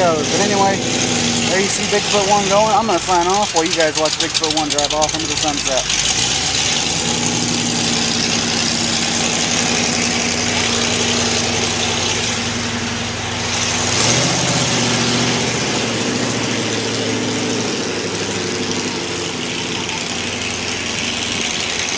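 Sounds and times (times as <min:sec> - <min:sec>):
monster truck engine running: 0:00.0 - 0:21.9.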